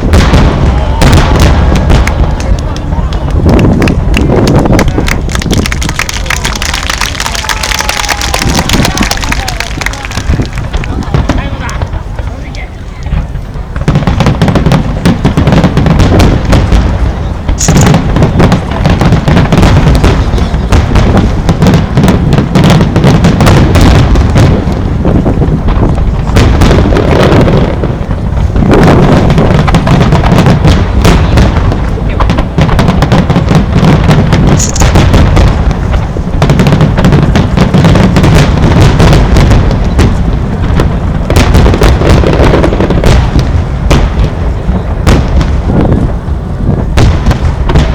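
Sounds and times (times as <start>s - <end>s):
fireworks bursting: 0.0s - 47.9s.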